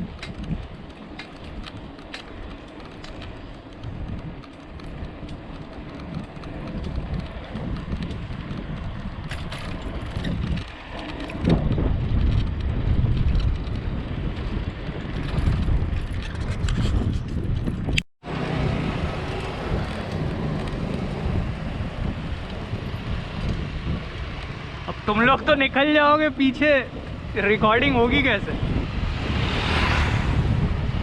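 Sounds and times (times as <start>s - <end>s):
road noise: 0.0s - 31.0s
wind buffeting microphone: 0.0s - 31.0s.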